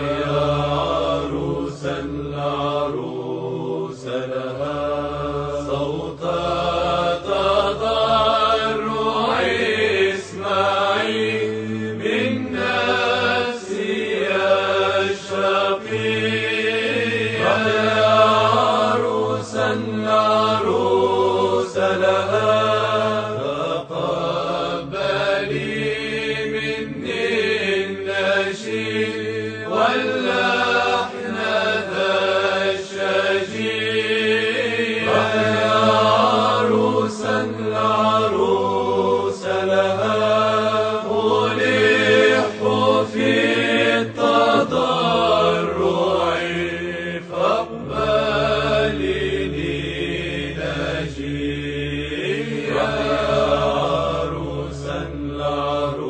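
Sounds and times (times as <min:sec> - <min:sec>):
chanted singing: 0:00.0 - 0:56.0.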